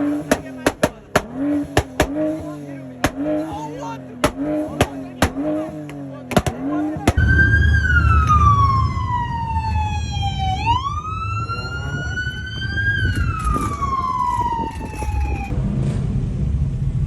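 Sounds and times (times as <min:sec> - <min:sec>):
low car engine rumble: 0:00.0 - 0:17.0
police siren wailing: 0:01.3 - 0:15.5.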